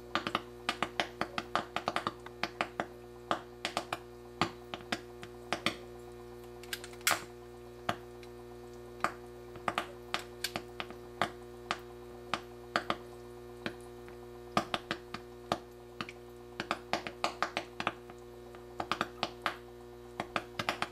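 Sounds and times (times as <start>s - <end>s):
gas bubbles popping: 0.0s - 6.6s, 7.6s - 20.9s
steady hum: 0.0s - 20.9s.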